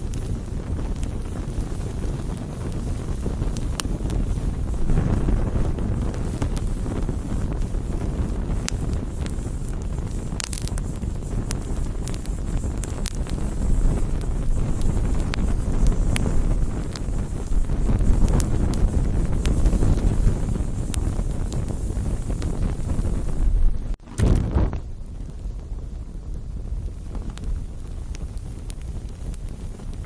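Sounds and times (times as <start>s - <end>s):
campfire crackling and popping: 0.0s - 30.0s
wind rumbling on microphone: 0.0s - 30.0s.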